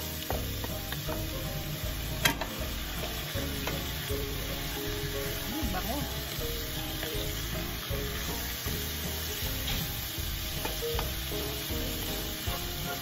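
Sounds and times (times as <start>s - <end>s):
food sizzling in a frying pan: 0.0s - 13.0s
spatula knocking and scraping pan: 0.3s - 5.5s, 6.2s - 12.3s.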